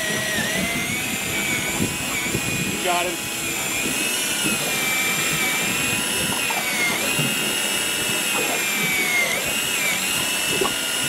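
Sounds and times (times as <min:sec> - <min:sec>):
electric reel motor whining: 0:00.0 - 0:11.0.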